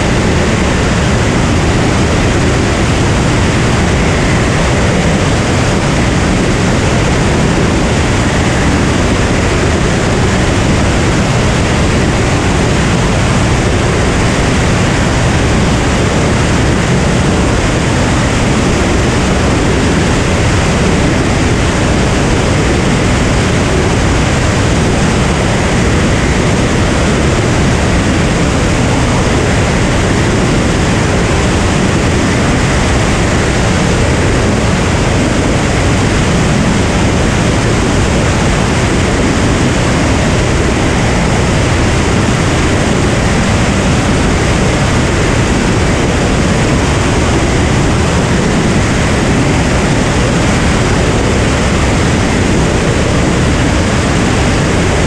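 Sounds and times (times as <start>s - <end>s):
aircraft engine and propeller drone: 0.0s - 55.0s
wind rushing: 0.0s - 55.0s.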